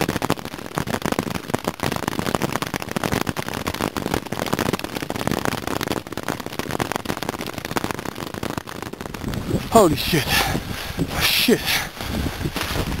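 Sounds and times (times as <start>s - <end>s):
hail hitting tent fabric: 0.0s - 13.0s.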